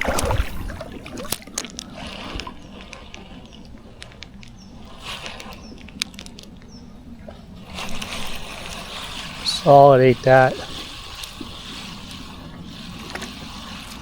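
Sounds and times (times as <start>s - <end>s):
fishing gear clicking: 0.0s - 14.0s
water sloshing against canoe: 0.0s - 14.0s.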